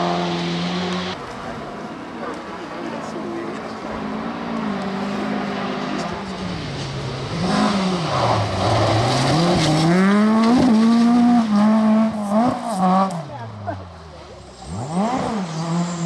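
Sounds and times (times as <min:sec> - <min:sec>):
rally car engine: 0:00.0 - 0:16.0.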